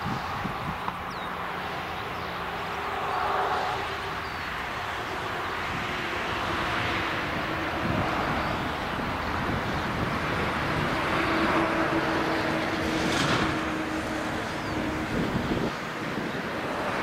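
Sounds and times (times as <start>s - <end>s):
distant jet engines running: 0.0s - 17.0s.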